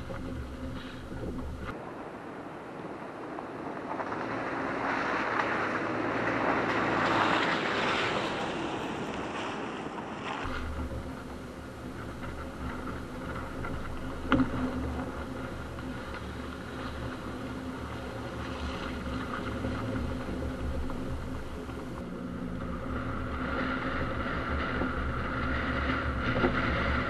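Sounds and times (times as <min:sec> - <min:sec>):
car engine drone: 0:00.0 - 0:27.0
tyres on dirt road: 0:00.0 - 0:27.0.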